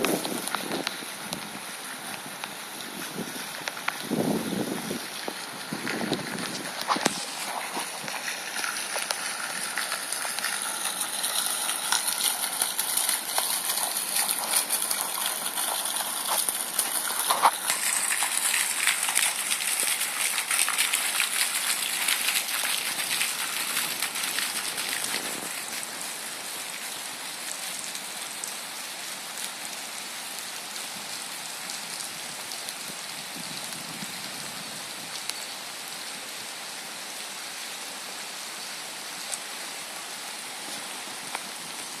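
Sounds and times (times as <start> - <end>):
rain patter: 0.0 - 42.0.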